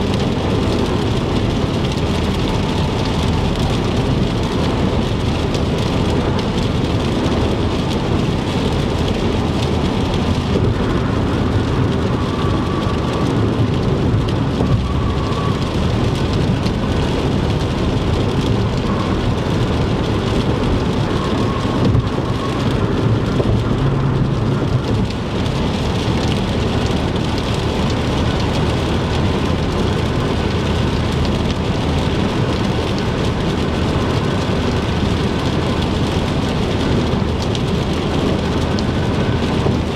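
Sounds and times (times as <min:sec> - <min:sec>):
rain on moving car: 0:00.0 - 0:39.9
tyre and road noise: 0:00.0 - 0:39.9.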